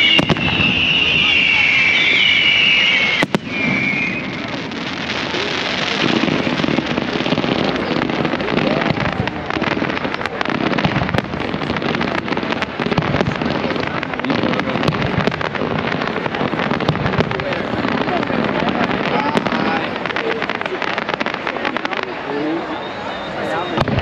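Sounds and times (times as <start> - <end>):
crowd voices: 0.0 - 24.0.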